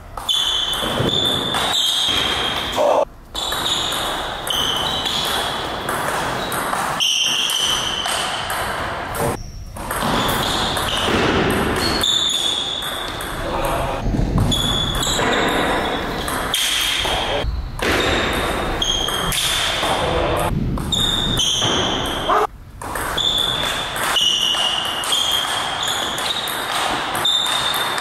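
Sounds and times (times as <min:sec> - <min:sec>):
table tennis ball bouncing: 0:00.2 - 0:13.8, 0:14.4 - 0:28.0.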